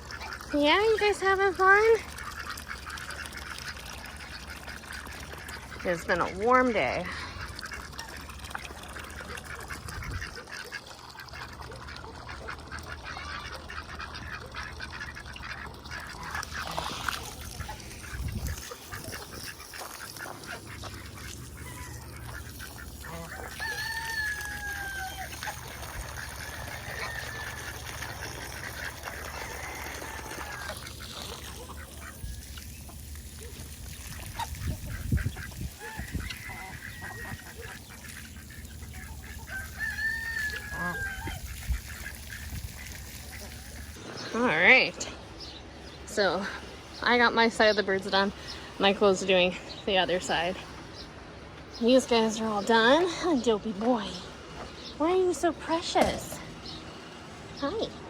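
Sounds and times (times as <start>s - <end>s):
ducks quacking: 0.0s - 51.2s.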